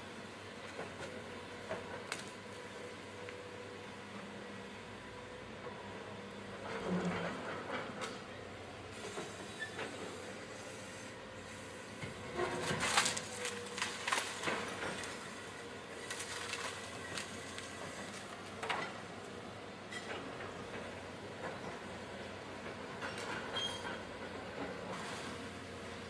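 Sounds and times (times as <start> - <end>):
heavy machinery running: 0.7 - 26.0.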